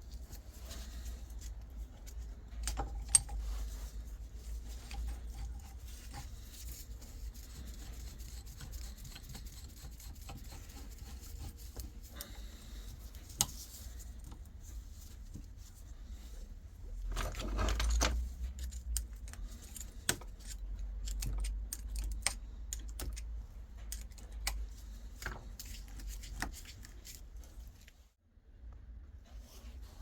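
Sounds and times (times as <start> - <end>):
metal parts rubbing and rattling: 0.1 - 15.5, 17.0 - 28.0.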